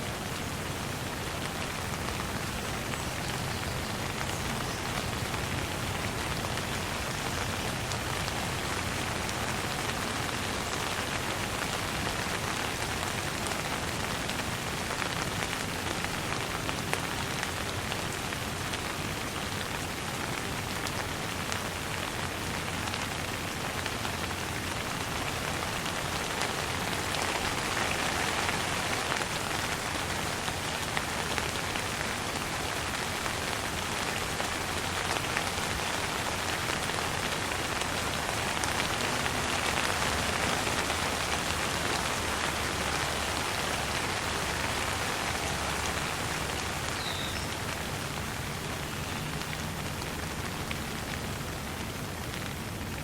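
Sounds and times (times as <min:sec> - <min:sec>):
light rain falling: 0:00.0 - 0:53.0.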